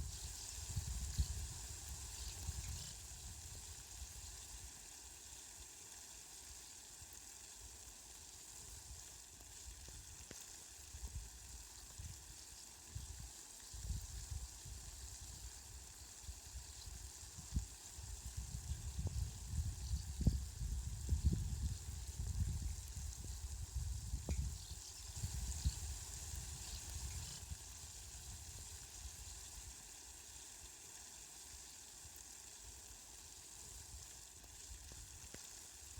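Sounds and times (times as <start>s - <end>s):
rain fine hiss: 0.0s - 35.9s.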